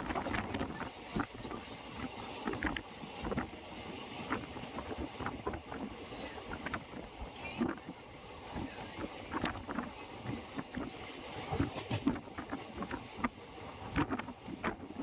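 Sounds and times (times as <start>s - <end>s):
passenger train rumbling: 0.0s - 15.0s
train clatter and knocks: 0.0s - 15.0s.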